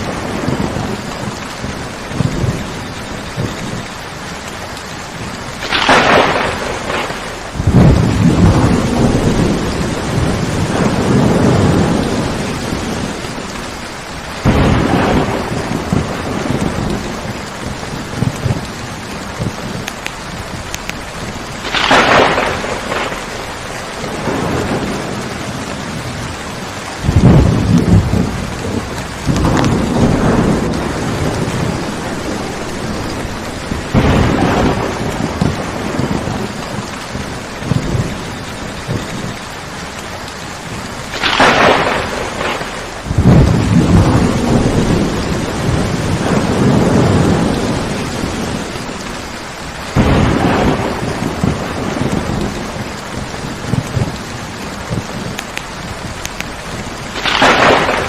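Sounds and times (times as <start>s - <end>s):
rolling thunder rumbles: 0.0s - 58.0s
steady rain: 0.0s - 58.0s
thunder cracks: 5.2s - 39.4s, 40.8s - 49.2s, 49.9s - 58.0s.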